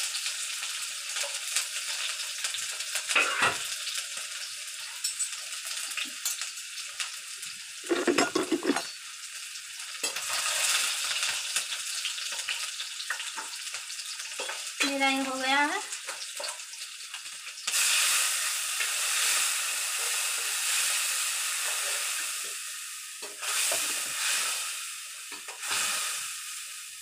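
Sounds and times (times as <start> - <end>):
onion sizzling in hot oil: 0.0 - 27.0.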